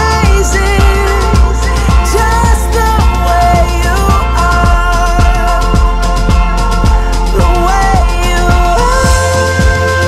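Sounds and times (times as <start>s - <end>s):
music with kick-drum beat: 0.0s - 10.0s.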